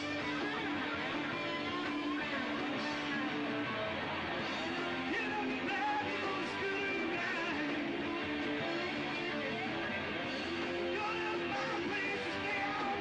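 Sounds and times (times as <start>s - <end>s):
electric guitar: 0.0s - 13.0s
rock band playing: 0.0s - 13.0s.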